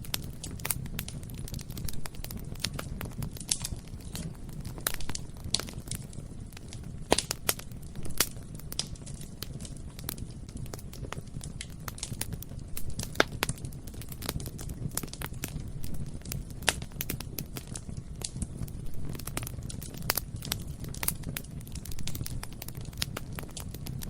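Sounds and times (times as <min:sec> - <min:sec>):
burning wood crackling and popping: 0:00.0 - 0:24.0
low rumble of flames: 0:00.0 - 0:24.0.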